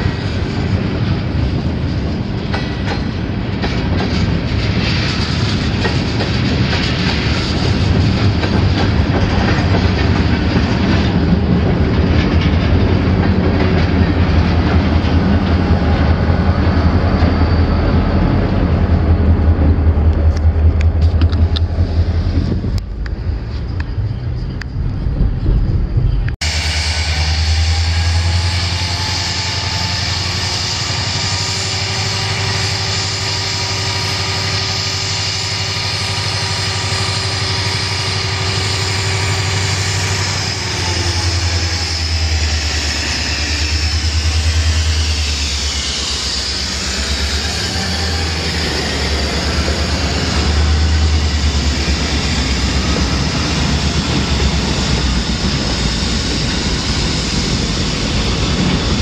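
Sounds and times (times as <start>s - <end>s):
locomotive engine drone: 0.0s - 59.0s
train rumbling on rails: 0.0s - 59.0s.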